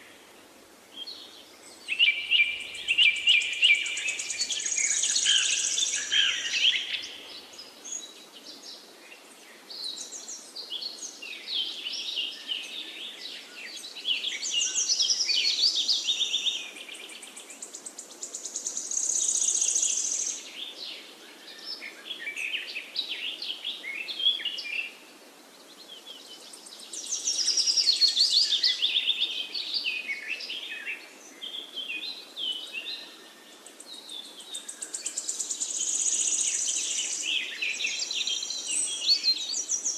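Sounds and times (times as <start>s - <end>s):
faint forest hiss: 0.0s - 39.9s
birds chirping and trilling: 1.0s - 25.0s, 25.6s - 39.9s.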